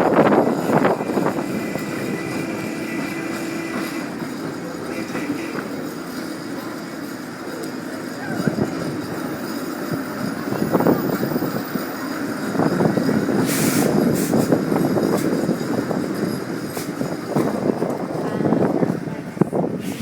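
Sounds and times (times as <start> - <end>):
streetcar rumbling on rails: 0.0 - 20.0.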